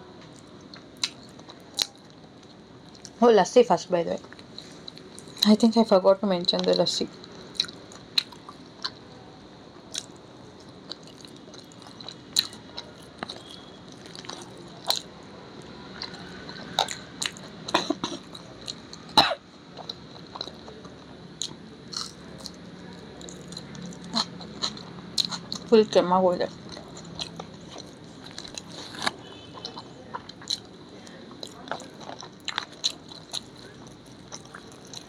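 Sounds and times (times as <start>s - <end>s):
chewing and mouth noises: 0.3s - 3.2s, 6.6s - 9.0s, 9.9s - 15.1s, 16.0s - 19.2s, 19.8s - 25.7s, 26.5s - 35.0s.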